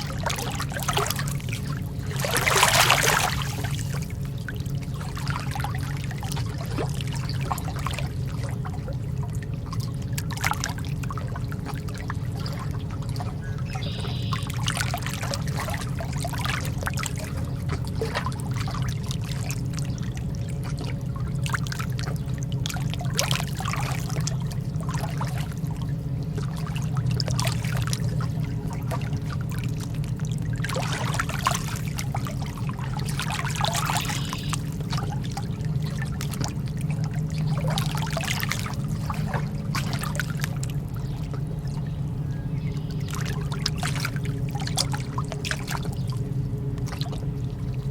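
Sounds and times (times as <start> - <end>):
lake water lapping at shore: 0.0 - 47.9
steady low rumble: 0.0 - 47.9.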